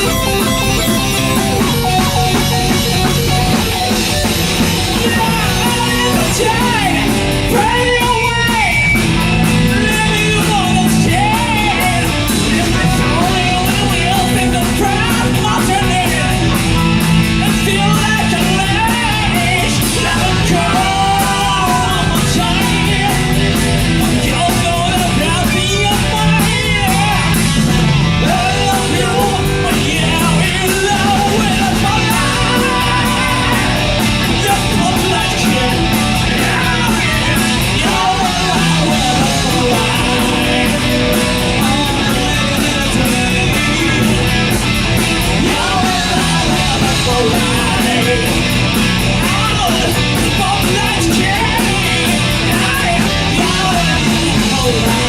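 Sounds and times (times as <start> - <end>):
person singing: 0.0 - 27.5, 28.2 - 55.0
rock band playing loud: 0.0 - 55.0.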